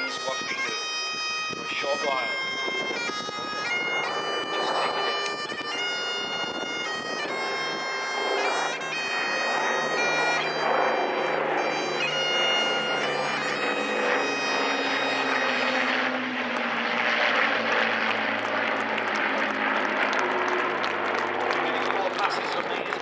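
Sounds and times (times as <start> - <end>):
aircraft engines droning: 0.0 - 23.0
bagpipes playing a lament: 0.0 - 23.0.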